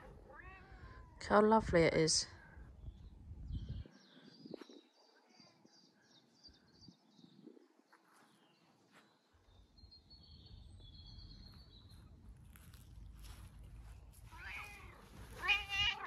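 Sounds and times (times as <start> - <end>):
small birds chirping: 2.7 - 16.0.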